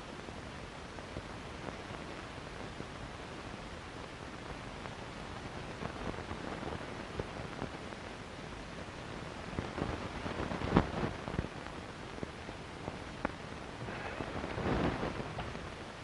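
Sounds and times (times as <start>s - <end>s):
film soundtrack hiss and crackle: 0.0s - 16.0s.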